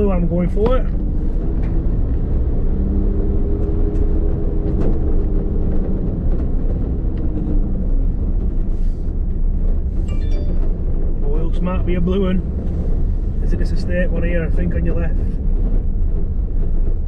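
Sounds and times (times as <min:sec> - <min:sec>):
truck engine rumble from cab: 0:00.0 - 0:17.0.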